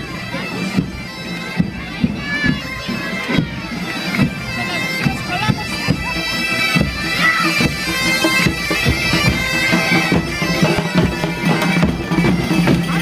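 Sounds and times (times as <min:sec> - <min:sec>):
bagpipes playing over drone: 0:00.0 - 0:13.0.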